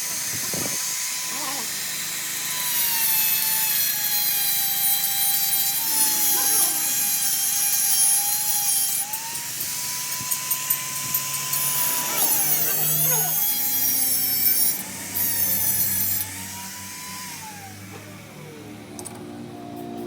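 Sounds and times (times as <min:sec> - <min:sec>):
power tool whining on metal: 0:00.0 - 0:20.0.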